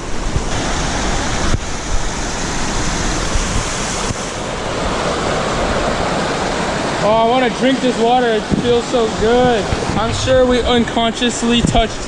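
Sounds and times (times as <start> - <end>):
fast-flowing river rushing: 0.0 - 12.0.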